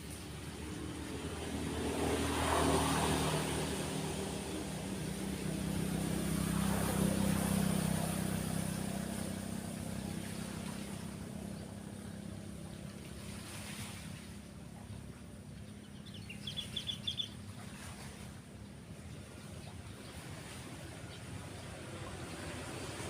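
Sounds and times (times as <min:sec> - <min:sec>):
small waves washing: 0:00.0 - 0:23.0
vehicles passing: 0:00.0 - 0:23.0.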